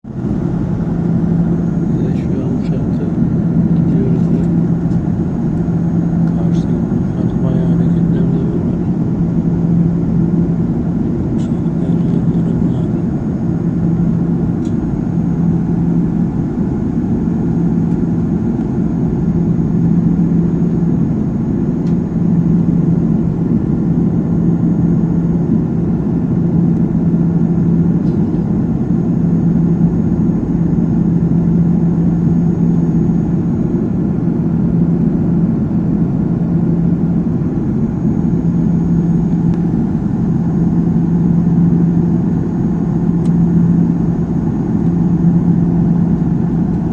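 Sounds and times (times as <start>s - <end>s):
airliner cabin engine drone: 0.0s - 46.9s.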